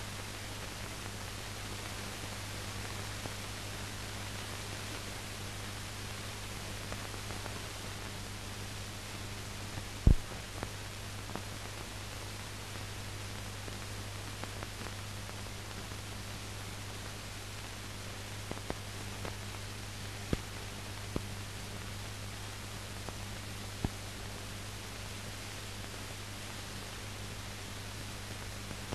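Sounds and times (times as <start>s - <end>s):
film soundtrack hiss: 0.0s - 28.9s.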